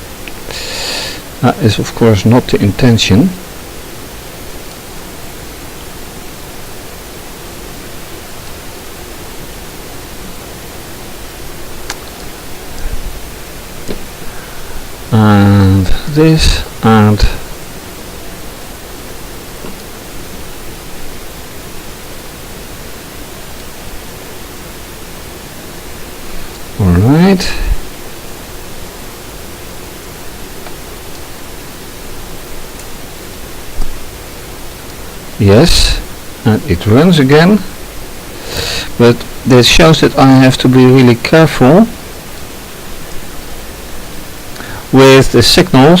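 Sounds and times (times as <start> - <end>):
faint low hum: 0.0 - 46.0
steady background hiss: 0.0 - 46.0.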